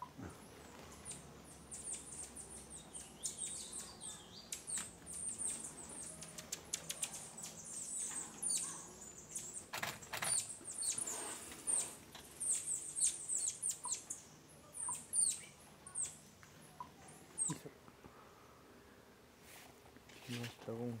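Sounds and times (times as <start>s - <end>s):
small songbirds calling: 0.0s - 18.8s.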